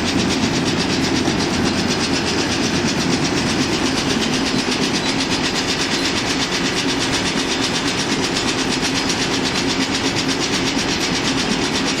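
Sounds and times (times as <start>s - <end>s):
baler mechanical clatter: 0.0s - 12.0s.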